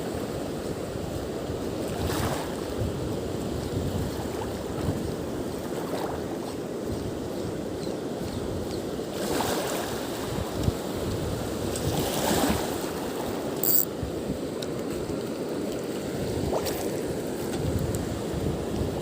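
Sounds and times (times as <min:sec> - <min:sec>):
water noise: 0:00.0 - 0:19.0.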